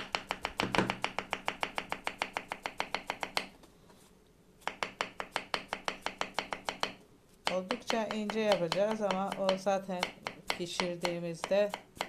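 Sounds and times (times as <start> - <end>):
knife chopping on wooden board: 0.0 - 3.5, 4.6 - 12.0.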